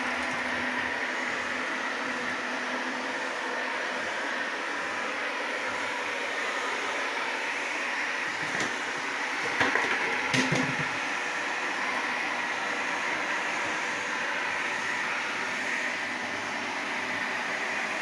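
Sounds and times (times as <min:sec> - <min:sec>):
robot vacuum running: 0:00.0 - 0:18.0.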